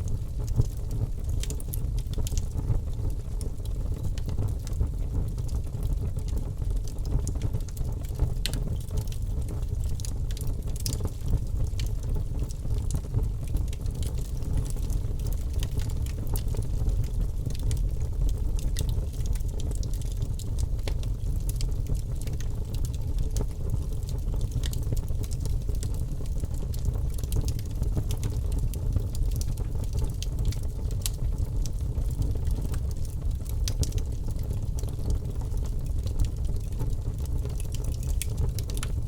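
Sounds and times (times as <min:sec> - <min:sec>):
fire crackling in fireplace: 0:00.0 - 0:39.0.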